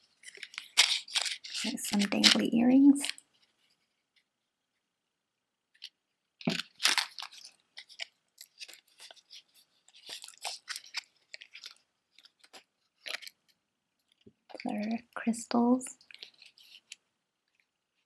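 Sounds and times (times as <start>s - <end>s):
small clicks and rustles: 0.0s - 4.8s, 5.7s - 18.0s.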